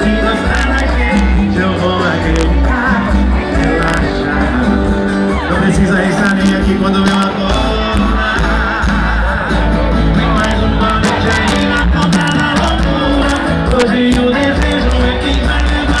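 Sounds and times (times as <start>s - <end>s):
accordion: 0.0s - 16.0s
drums and bass: 0.0s - 16.0s
guitars: 0.0s - 16.0s
person singing: 0.0s - 16.0s.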